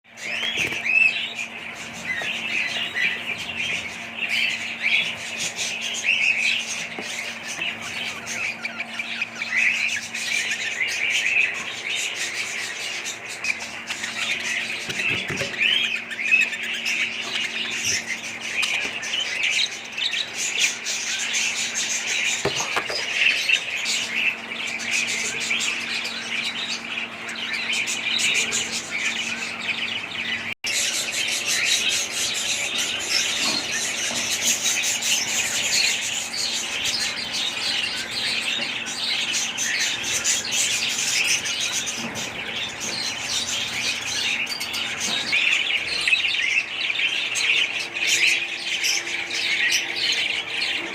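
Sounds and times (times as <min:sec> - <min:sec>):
caged birds chirping and squawking: 0:00.0 - 0:50.9.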